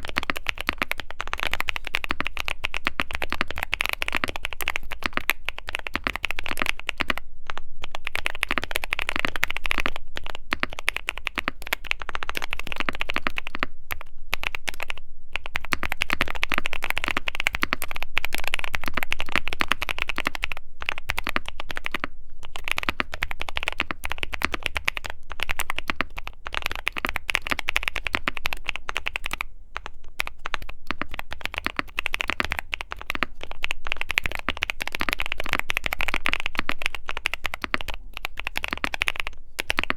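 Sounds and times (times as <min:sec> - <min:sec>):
fast typing on mechanical keyboard: 0:00.0 - 0:07.2, 0:07.9 - 0:39.9.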